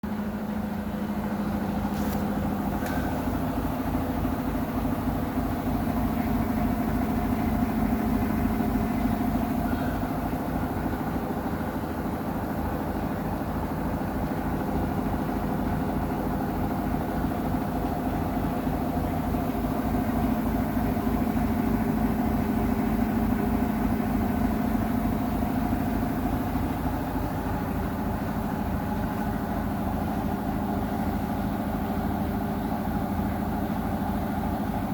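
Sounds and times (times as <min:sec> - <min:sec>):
washing machine humming: 0:00.0 - 0:34.9.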